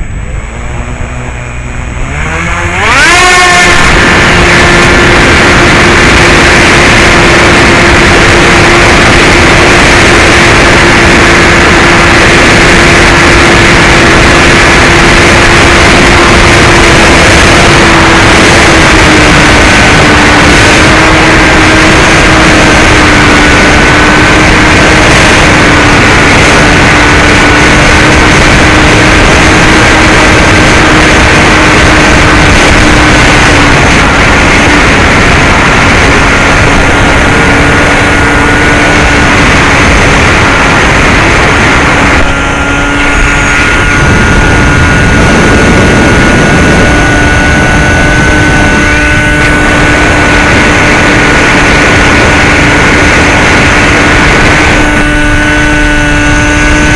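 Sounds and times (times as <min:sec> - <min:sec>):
electric motor droning whine: 0:00.0 - 0:56.9
wind rush: 0:00.0 - 0:56.9.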